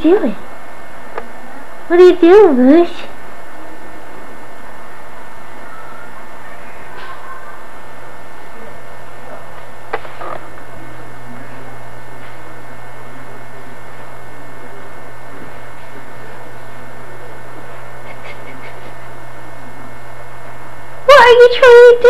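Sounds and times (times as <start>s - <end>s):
mains hum: 0.0s - 22.0s
tape hiss: 0.0s - 22.0s.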